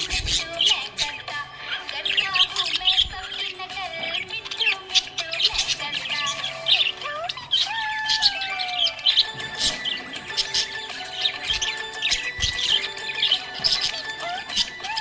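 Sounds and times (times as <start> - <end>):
budgerigars chirping and warbling: 0.0 - 15.0.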